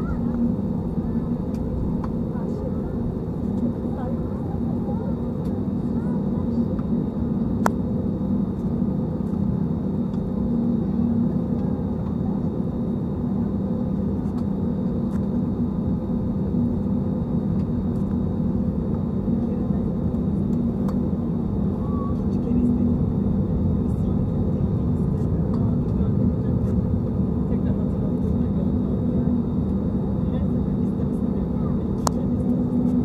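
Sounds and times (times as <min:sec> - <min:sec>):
jet engine hum in cabin: 0:00.0 - 0:33.0.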